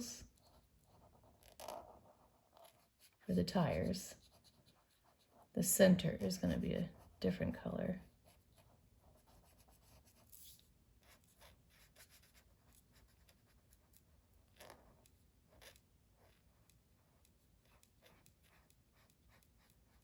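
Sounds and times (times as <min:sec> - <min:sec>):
marker scratching on paper: 0:00.0 - 0:07.4, 0:08.1 - 0:20.0.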